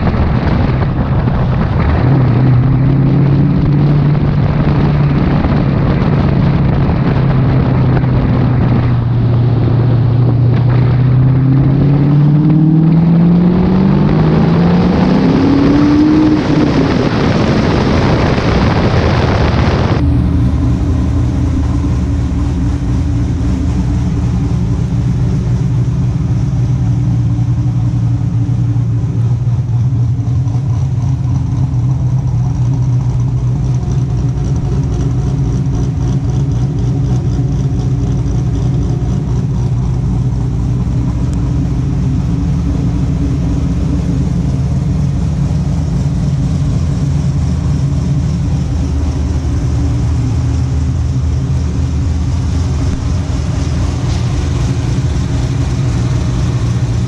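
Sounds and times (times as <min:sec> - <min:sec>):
car engine idling: 0:00.0 - 0:57.0
wind and road noise: 0:00.0 - 0:57.0.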